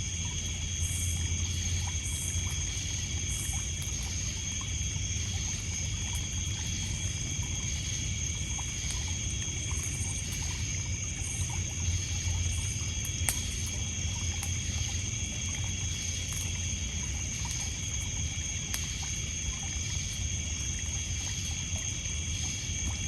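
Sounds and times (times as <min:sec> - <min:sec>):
campfire crackles: 0:00.0 - 0:23.0
crickets trilling: 0:00.0 - 0:23.0
pulsing insect call: 0:00.0 - 0:23.0
water lapping on pebbles: 0:00.1 - 0:23.0.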